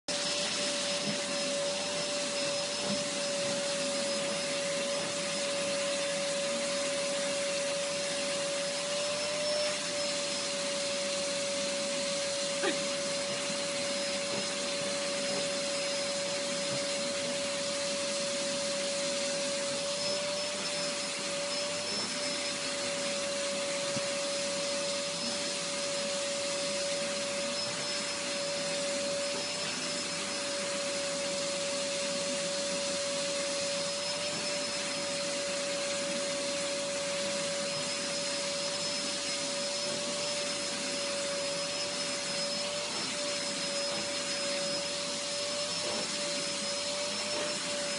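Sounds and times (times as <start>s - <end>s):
vacuum cleaner running: 0.1s - 47.9s.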